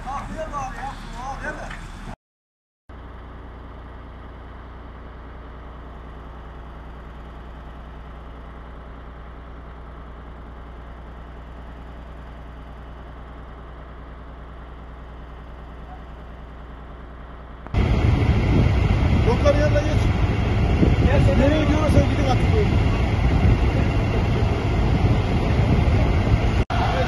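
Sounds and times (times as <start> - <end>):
low engine-like drone: 2.9 - 27.0.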